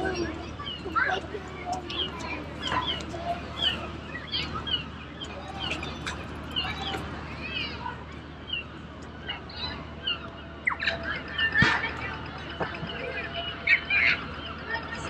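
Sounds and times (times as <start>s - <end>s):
low hum of city traffic: 0.0s - 15.0s
small birds chirping: 0.0s - 15.0s.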